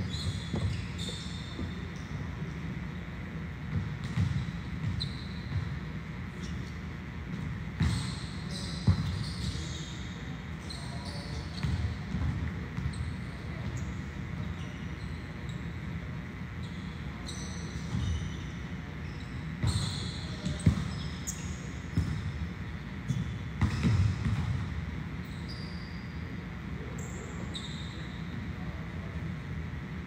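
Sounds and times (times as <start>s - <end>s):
sneakers squeaking: 0.0s - 29.2s
low hum of hall: 0.0s - 30.0s.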